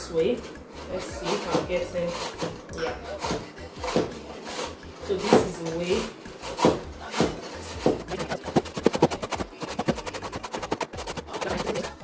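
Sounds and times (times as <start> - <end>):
carrot grating on metal grater: 0.8 - 2.6, 3.2 - 12.0.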